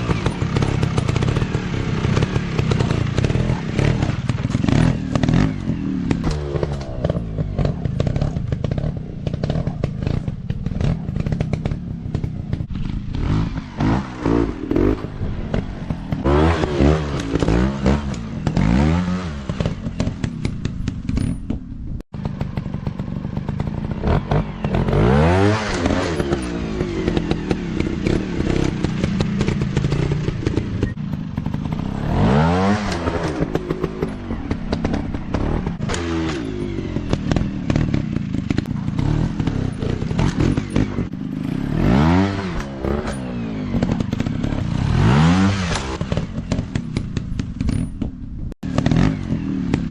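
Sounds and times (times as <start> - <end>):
dirt bike engines revving: 0.0 - 49.9
knocks and clatter: 0.0 - 49.9.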